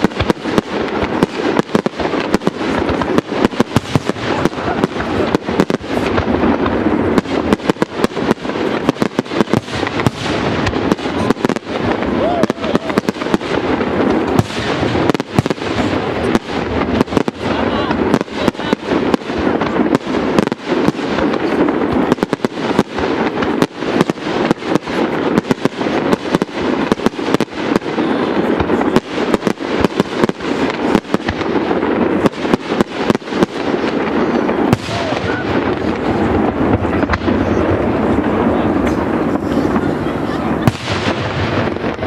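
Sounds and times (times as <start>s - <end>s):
fireworks bursts and bangs: 0.0s - 42.0s.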